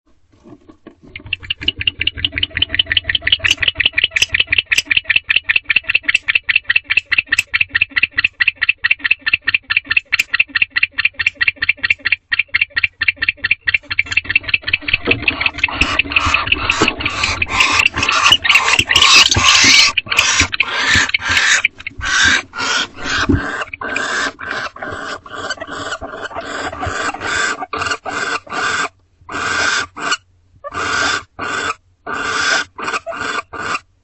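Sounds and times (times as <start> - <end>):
barn owl rasping calls: 1.0 - 33.9.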